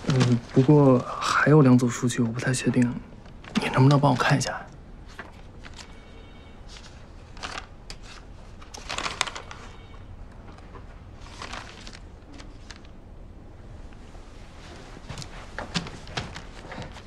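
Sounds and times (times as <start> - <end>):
paper rustling: 0.0 - 13.0, 13.9 - 17.0
low room hum: 0.0 - 17.0.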